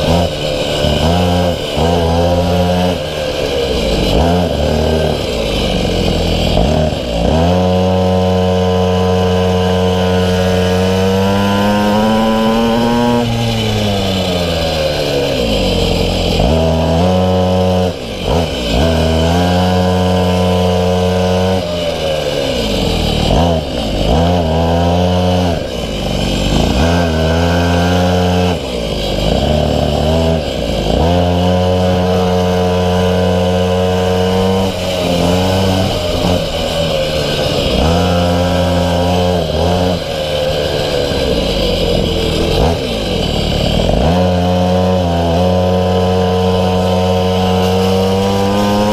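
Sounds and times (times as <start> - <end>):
small two-stroke engine revving: 0.0 - 48.9.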